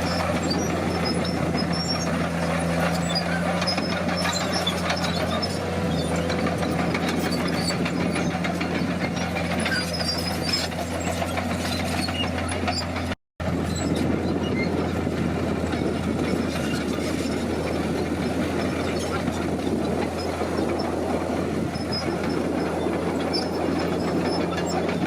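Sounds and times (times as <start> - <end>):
bulldozer diesel engine running: 0.0 - 25.0
rattling and clanking: 0.0 - 25.0.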